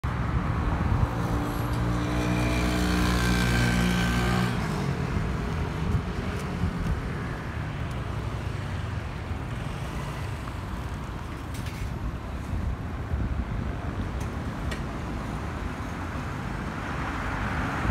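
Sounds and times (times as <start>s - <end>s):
steady traffic rumble: 0.0s - 17.9s.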